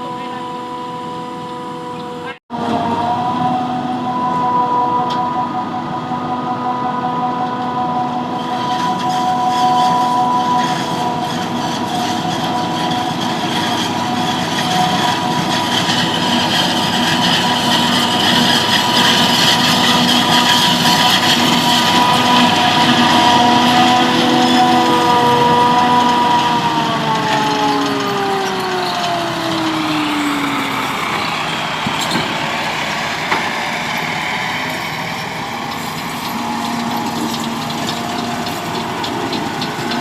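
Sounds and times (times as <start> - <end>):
farm machinery whine: 0.0 - 40.0
rushing noise: 3.4 - 40.0.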